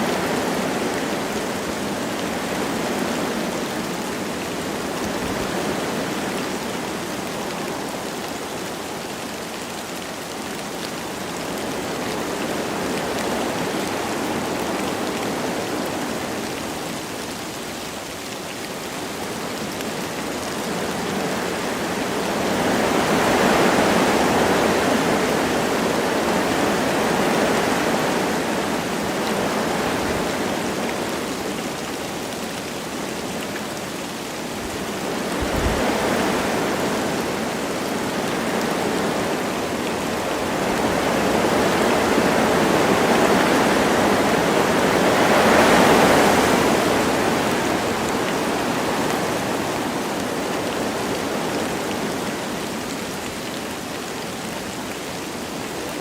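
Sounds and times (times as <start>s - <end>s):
light rain: 0.0s - 56.0s
wind through forest trees: 0.0s - 56.0s.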